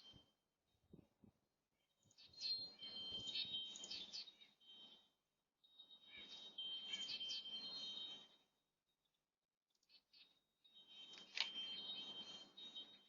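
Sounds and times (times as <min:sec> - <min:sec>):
birds chirping: 0:01.8 - 0:09.2, 0:09.8 - 0:13.0.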